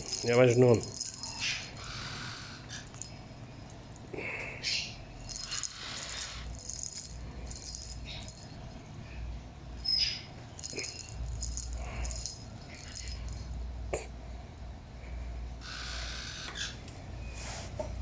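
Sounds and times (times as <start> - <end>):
rattling and jingling: 0.0 - 17.4.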